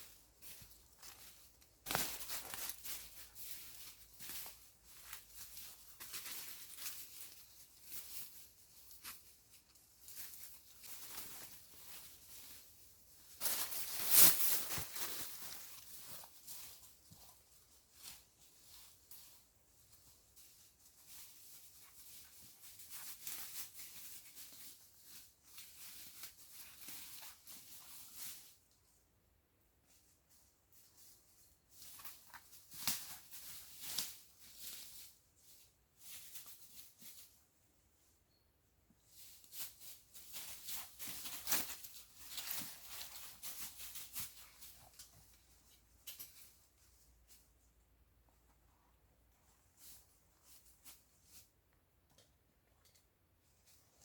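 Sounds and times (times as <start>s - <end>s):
soft rustling and scraping: 0.0s - 54.0s.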